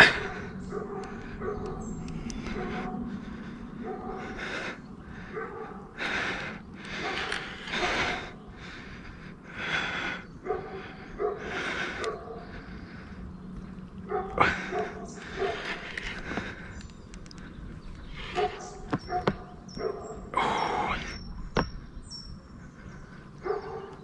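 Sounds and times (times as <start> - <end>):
person breathing heavily: 0.0 - 24.0.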